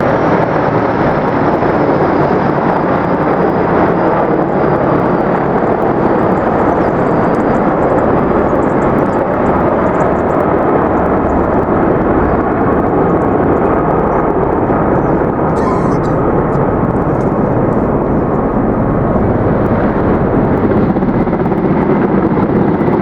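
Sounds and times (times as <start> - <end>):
helicopter engine and rotor noise: 0.0 - 23.0.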